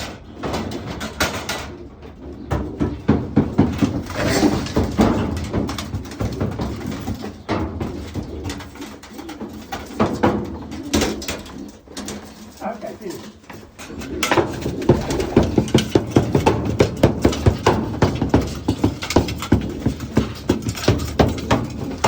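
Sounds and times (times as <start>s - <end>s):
pigeons cooing: 0.0s - 22.0s
pigeons scuffling: 0.0s - 22.0s.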